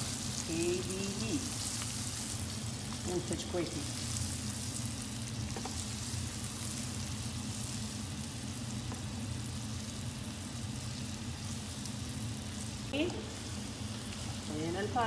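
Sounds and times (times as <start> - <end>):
sauce sizzling in a frying pan: 0.0 - 15.0.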